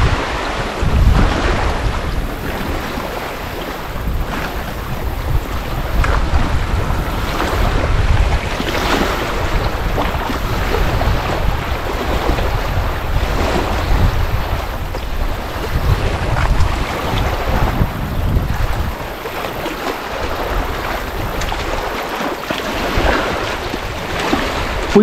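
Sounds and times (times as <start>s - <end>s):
small waves washing onto beach: 0.0s - 25.0s
wind buffeting microphone: 0.0s - 25.0s.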